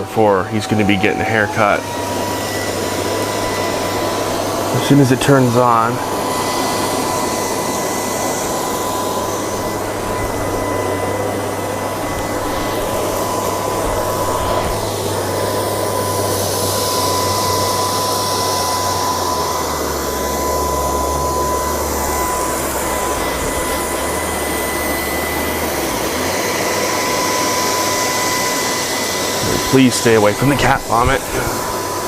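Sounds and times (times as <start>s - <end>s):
robot vacuum running: 0.0s - 32.0s.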